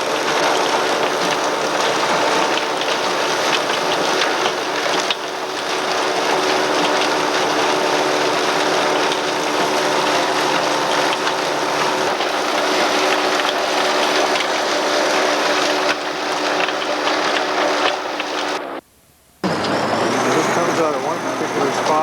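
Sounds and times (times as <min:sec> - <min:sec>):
farm machinery running: 0:00.0 - 0:18.8, 0:19.4 - 0:22.0.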